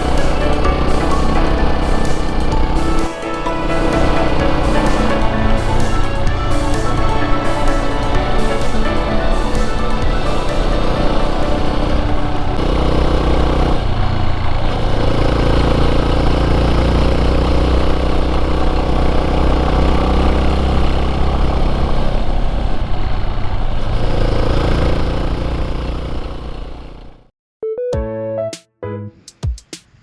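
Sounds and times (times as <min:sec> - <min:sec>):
motorcycle engine running: 0:00.0 - 0:27.3.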